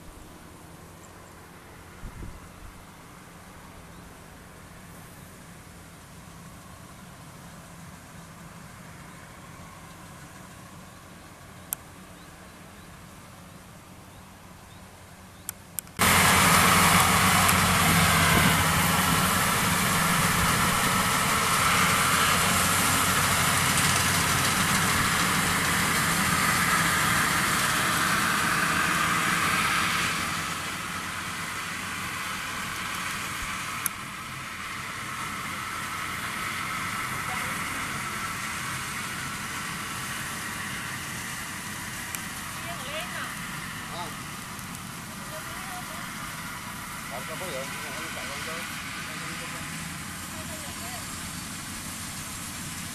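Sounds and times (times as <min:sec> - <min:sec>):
combine harvester engine running: 0:00.0 - 0:52.9.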